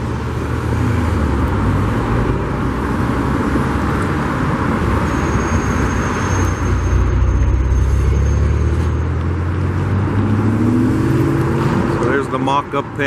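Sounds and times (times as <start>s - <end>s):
road traffic passing cars: 0.0s - 13.0s.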